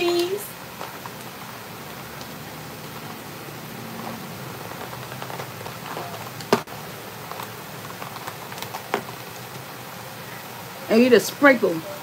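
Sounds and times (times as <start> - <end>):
rain patter: 0.0 - 12.0.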